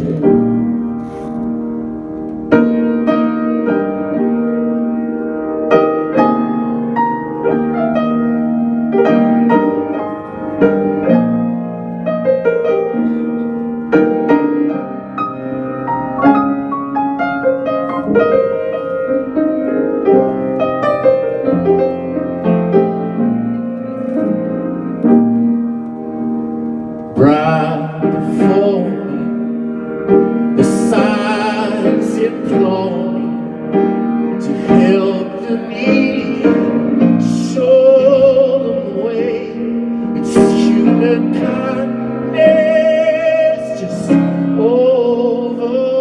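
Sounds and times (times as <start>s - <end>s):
solo piano playing: 0.0s - 46.0s.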